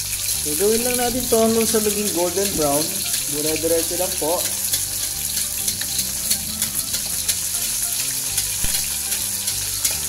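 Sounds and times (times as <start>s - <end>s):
fish frying in hot oil: 0.0s - 10.0s
spatula basting: 0.0s - 10.0s.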